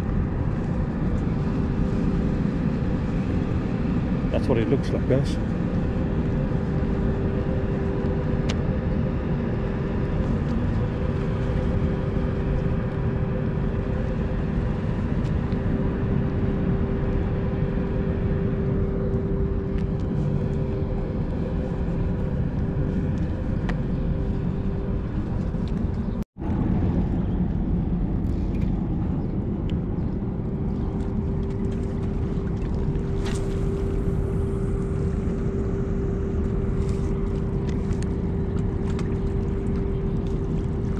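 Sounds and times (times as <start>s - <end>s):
engine droning steadily: 0.0s - 40.9s.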